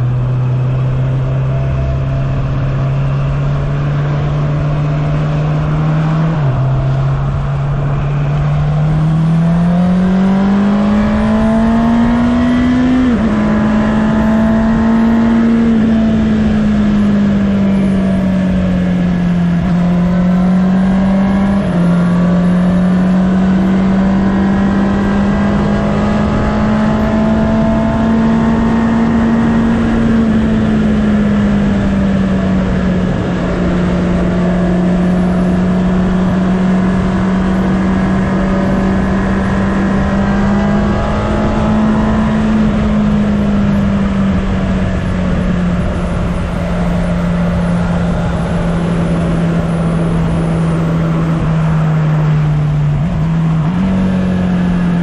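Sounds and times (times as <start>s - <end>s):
motorcycle engine cruising: 0.0s - 55.0s
wind noise: 0.0s - 55.0s.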